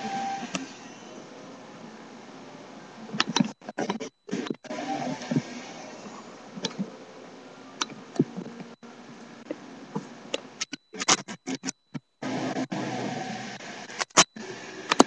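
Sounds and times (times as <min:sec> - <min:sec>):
indoor room background noise: 0:00.0 - 0:15.0.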